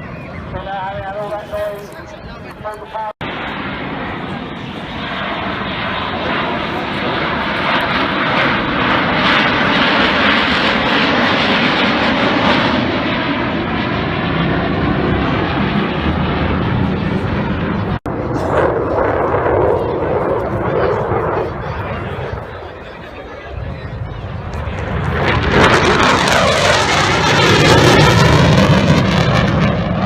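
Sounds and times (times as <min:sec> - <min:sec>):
fighter jet engines roaring past: 0:00.0 - 0:30.0.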